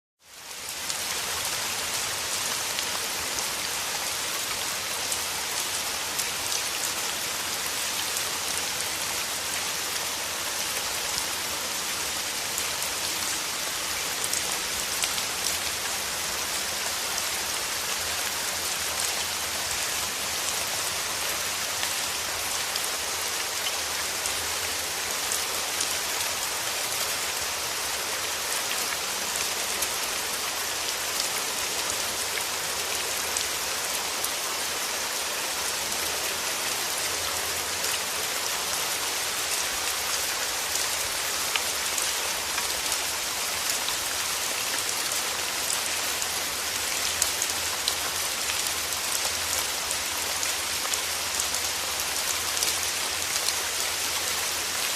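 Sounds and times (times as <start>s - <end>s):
rain falling through trees: 0.2s - 54.9s.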